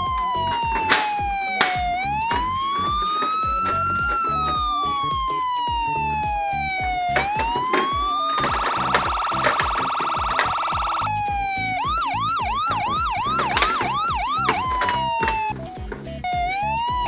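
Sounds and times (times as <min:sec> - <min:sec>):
toy siren wailing and warbling: 0:00.0 - 0:15.6
sharp clicks: 0:00.0 - 0:17.0.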